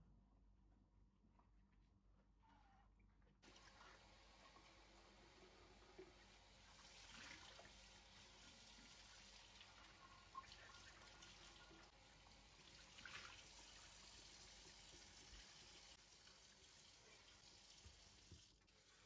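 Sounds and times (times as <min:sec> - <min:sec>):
tap water running into sink: 0:03.4 - 0:19.0.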